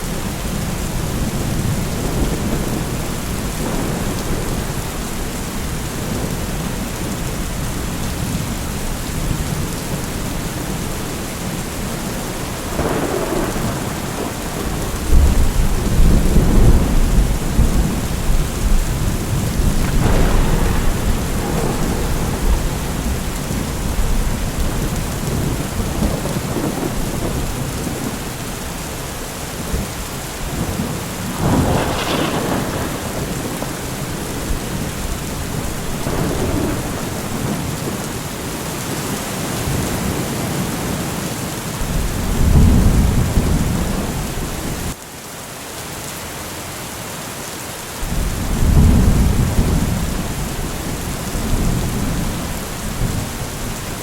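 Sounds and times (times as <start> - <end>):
rolling thunder: 0.0 - 41.1, 41.8 - 45.0, 48.0 - 54.0
steady rain: 0.0 - 54.0.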